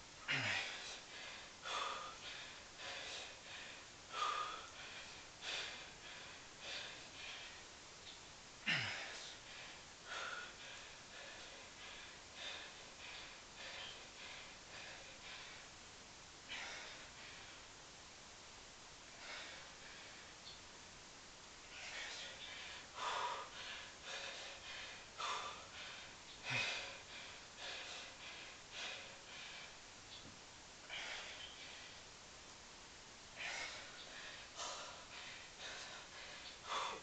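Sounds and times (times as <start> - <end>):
man breathing hard: 0.2 - 7.8, 8.6 - 17.8, 19.0 - 20.5, 21.6 - 30.0, 30.8 - 32.2, 33.3 - 37.0.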